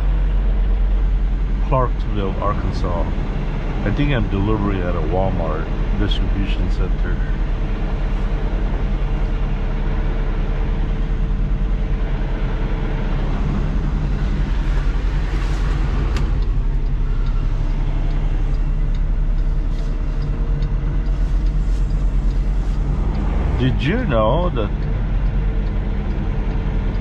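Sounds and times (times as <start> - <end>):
diesel engine low drone: 0.0 - 27.0.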